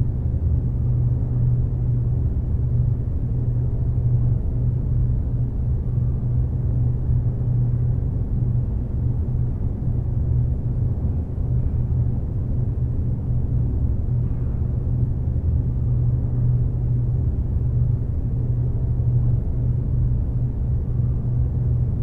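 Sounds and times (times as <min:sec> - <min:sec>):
low rumbling drone: 0:00.0 - 0:22.0.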